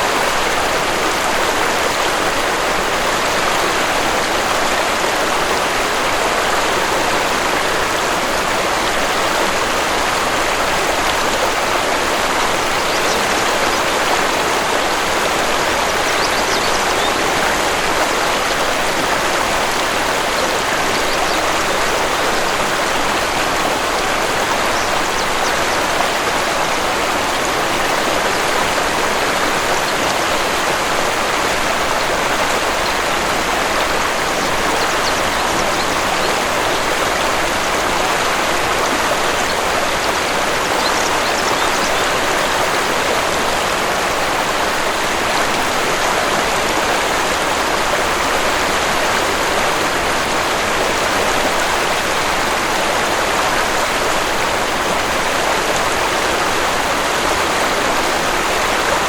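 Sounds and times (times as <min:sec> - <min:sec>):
waterfall water rushing: 0:00.0 - 0:59.0.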